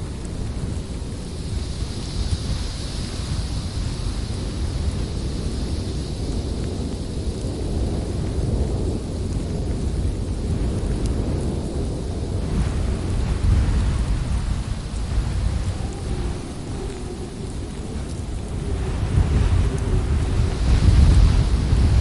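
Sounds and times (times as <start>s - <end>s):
howling wind: 0.0s - 22.0s.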